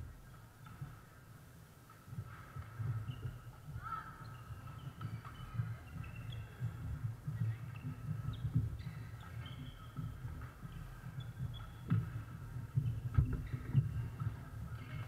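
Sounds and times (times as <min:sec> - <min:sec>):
sneakers squeaking on floor: 0:02.2 - 0:15.0.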